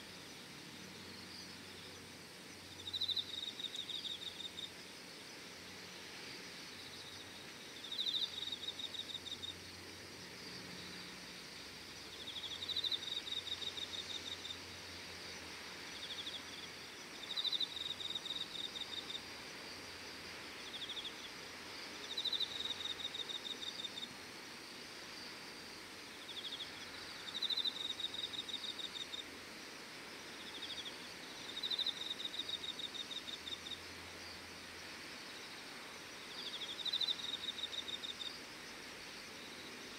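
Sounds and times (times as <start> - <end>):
faint steady hiss: 0.0 - 39.9
insect buzz and pulsed trill: 0.0 - 39.9.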